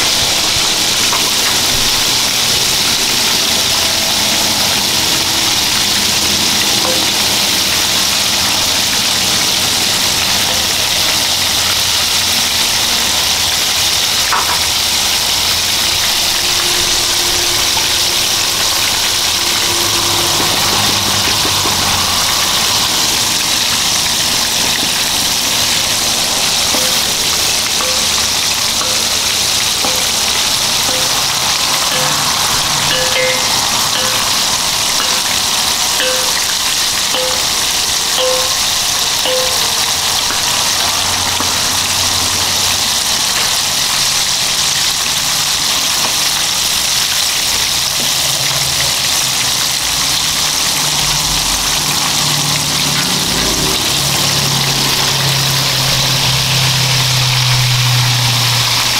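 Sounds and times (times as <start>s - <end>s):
food sizzling in a wok: 0.0s - 58.9s.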